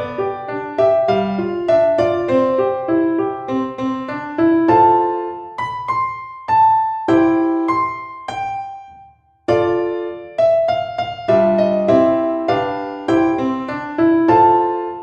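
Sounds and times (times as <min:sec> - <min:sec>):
slow solo piano melody: 0:00.0 - 0:15.0.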